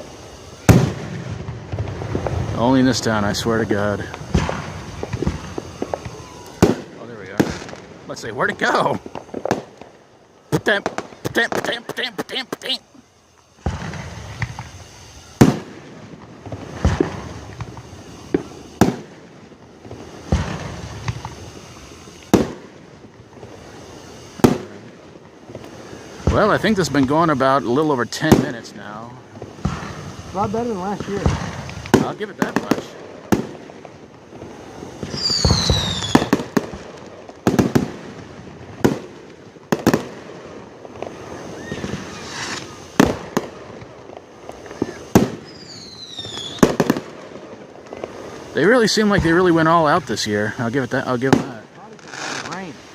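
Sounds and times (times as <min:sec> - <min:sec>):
fireworks booming: 0:00.0 - 0:52.9
small fireworks pops: 0:00.0 - 0:52.9.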